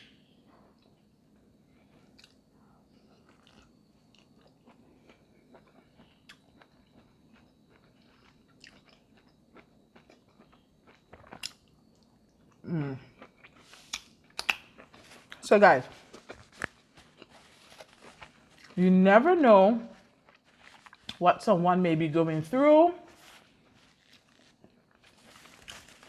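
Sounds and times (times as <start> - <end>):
person chewing: 0.8 - 15.4, 16.0 - 18.8, 20.0 - 21.2, 23.1 - 26.0.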